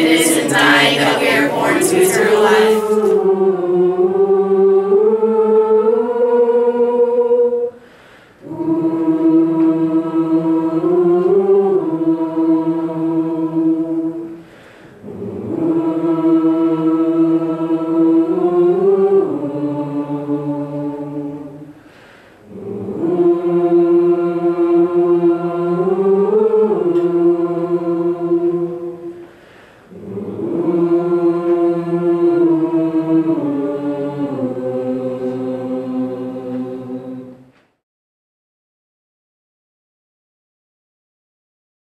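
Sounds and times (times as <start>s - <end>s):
choir singing a cappella: 0.0s - 37.7s.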